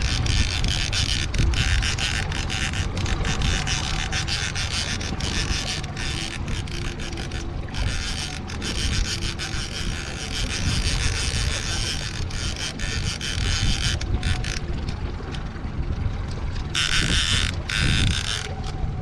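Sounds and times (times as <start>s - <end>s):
outboard motor rumbling: 0.0s - 19.0s
water: 0.0s - 19.0s
wind rushing over microphone: 0.0s - 19.0s.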